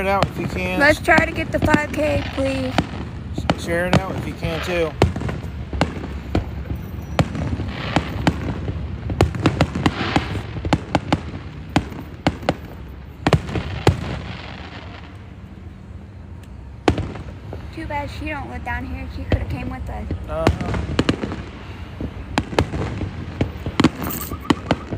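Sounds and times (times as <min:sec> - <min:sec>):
firework bangs and cracks: 0:00.0 - 0:15.4, 0:16.8 - 0:24.9
firework crackling: 0:00.0 - 0:24.9.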